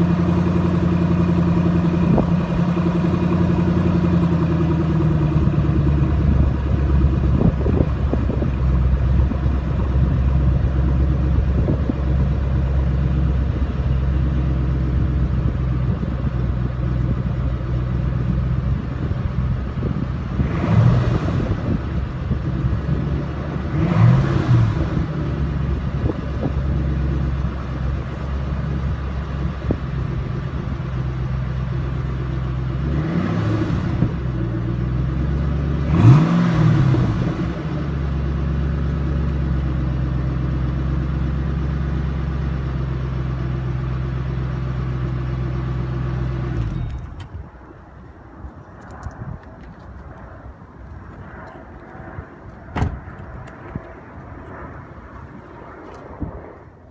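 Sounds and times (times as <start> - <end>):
car exhaust idling and revving: 0.0 - 56.9.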